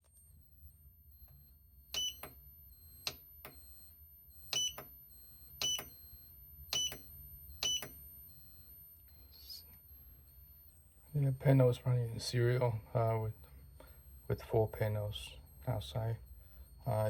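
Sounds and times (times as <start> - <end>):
inverter high-pitched whine: 0.0 - 17.0
short pulsing beeps: 0.2 - 17.0.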